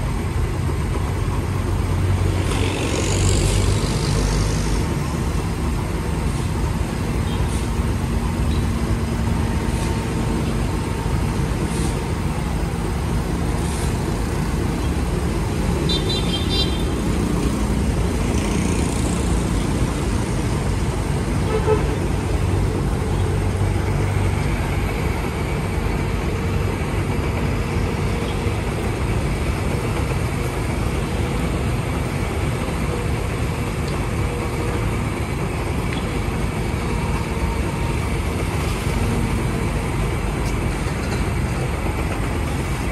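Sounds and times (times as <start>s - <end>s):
excavator diesel engine rumbling: 0.0s - 42.9s.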